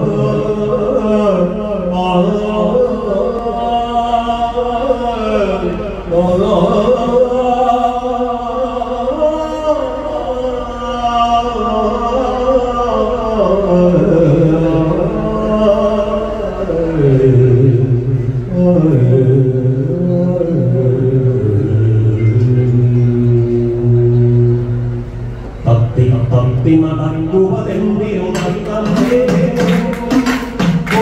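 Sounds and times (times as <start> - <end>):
man singing into a microphone: 0.0 - 31.0.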